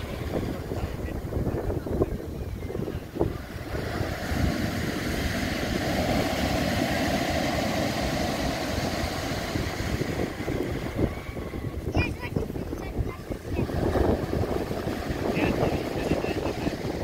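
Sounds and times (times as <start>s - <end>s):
waves breaking on shingle beach: 2.6s - 17.0s.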